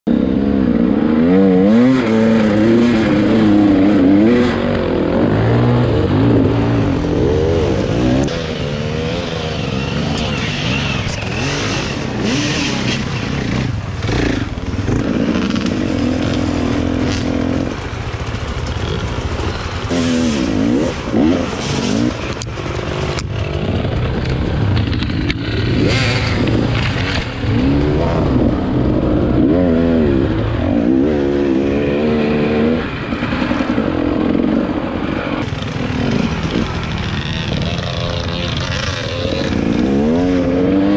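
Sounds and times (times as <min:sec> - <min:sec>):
dirt bike engine revving: 0:00.1 - 0:40.9.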